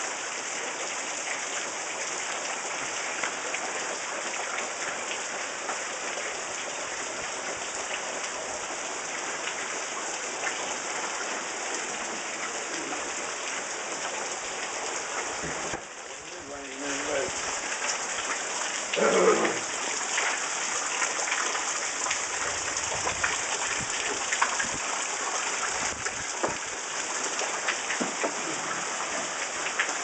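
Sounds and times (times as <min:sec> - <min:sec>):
heavy rain: 0:00.0 - 0:30.0
rain drops ticking: 0:00.0 - 0:30.0.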